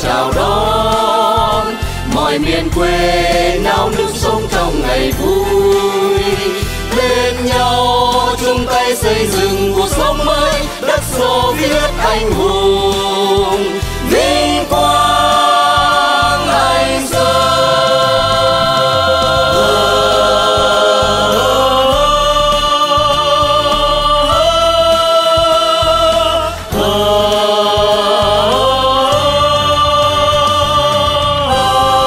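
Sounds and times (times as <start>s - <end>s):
instrumental backing with pulsing bass: 0.0s - 32.0s
wordless vocal with vibrato: 0.0s - 32.0s.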